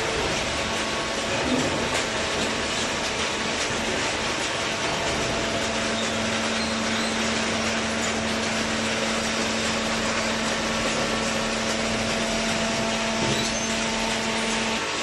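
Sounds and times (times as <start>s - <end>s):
baler motor and hydraulic pump: 0.0s - 15.0s.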